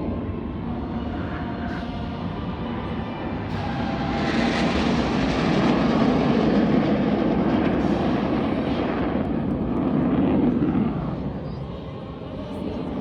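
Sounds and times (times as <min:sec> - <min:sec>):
jet aircraft flying low: 0:00.0 - 0:13.0.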